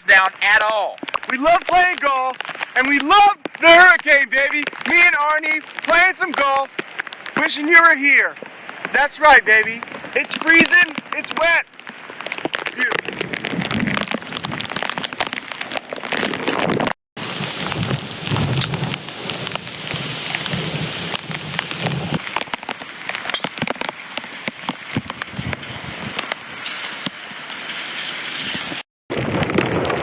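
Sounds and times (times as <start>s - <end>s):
heavy rain falling: 0.0s - 30.0s
sharp raindrop clicks: 0.0s - 30.0s.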